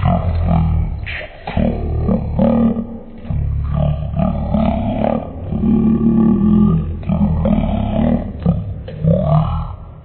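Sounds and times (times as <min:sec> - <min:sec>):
deep drawn-out low tones: 0:00.0 - 0:10.0.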